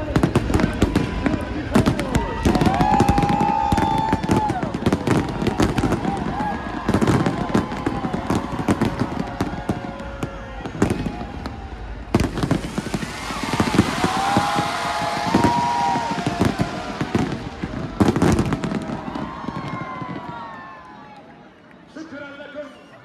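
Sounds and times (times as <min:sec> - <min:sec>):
fireworks bangs: 0:00.0 - 0:20.8
fireworks crackling: 0:00.0 - 0:21.1.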